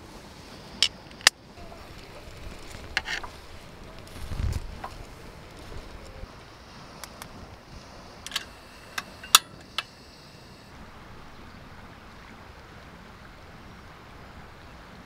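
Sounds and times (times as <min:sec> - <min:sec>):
river water: 0:00.0 - 0:15.0
wind: 0:00.0 - 0:15.0.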